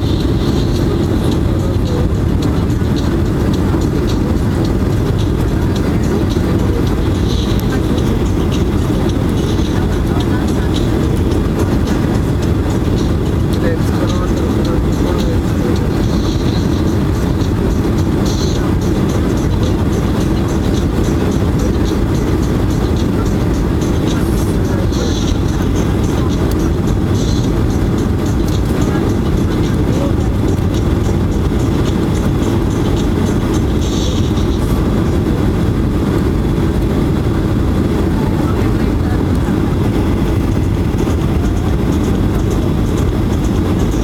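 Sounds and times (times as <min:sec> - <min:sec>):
airliner cabin engine and airflow rush: 0:00.0 - 0:44.0.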